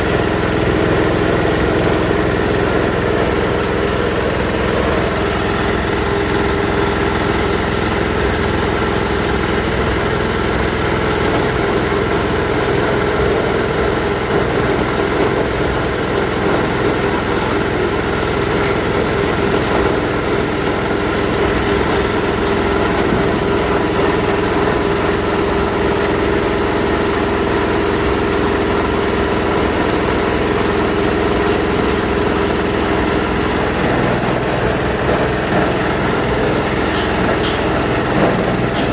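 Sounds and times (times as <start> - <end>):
grinding machine running: 0.0 - 38.9.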